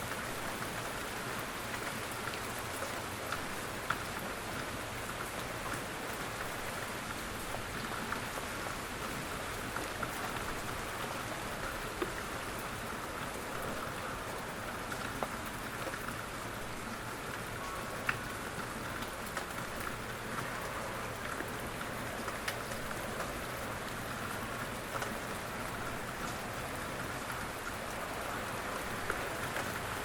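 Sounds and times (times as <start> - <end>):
rain hissing on a surface: 0.0 - 30.0.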